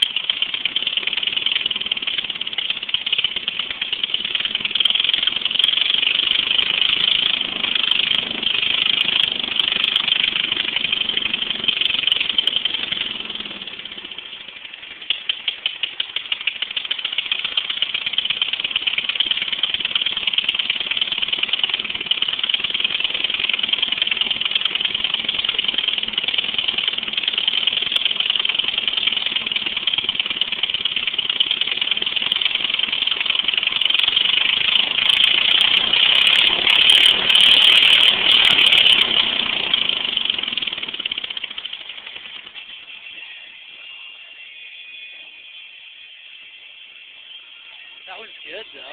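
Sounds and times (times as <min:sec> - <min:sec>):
lawnmower engine through open exhaust: 0:00.0 - 0:48.9.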